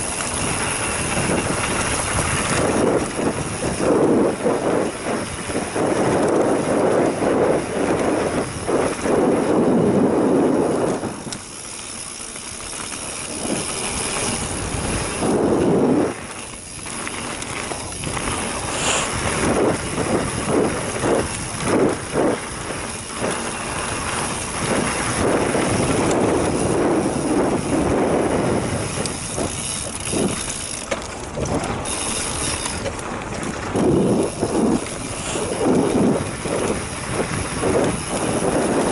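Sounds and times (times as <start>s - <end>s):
bike clattering over bumps: 0.0s - 38.9s
bike tyres on dirt: 0.0s - 38.9s
wind rushing over microphone: 0.0s - 38.9s.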